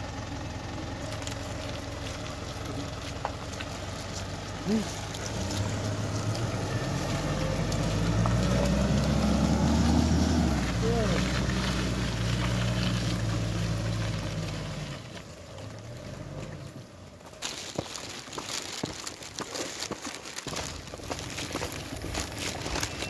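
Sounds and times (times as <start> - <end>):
car engine running under load: 0.0 - 23.0.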